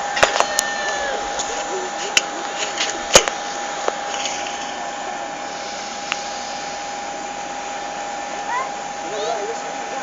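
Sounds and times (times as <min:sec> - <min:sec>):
constant whine: 0:00.0 - 0:10.0
jet engine air rush: 0:00.0 - 0:10.0.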